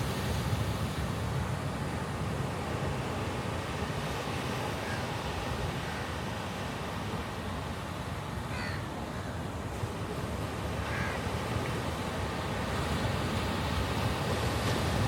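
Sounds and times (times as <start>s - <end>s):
sea surf on a beach: 0.0s - 15.0s.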